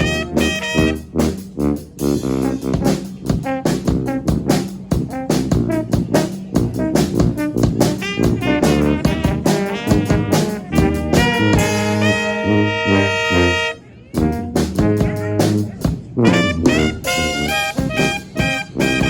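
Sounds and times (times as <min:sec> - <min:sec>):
brass band playing up-tempo tune: 0:00.0 - 0:19.0.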